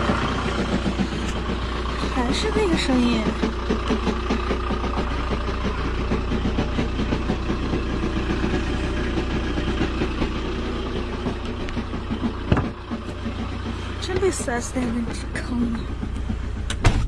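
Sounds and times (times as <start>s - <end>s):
fast rattling tick: 0.0s - 16.8s
engine idling: 0.0s - 17.0s.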